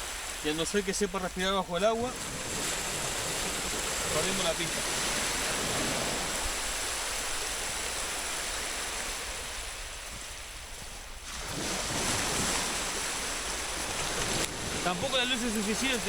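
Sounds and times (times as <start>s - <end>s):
waves washing onto beach: 0.0s - 16.0s.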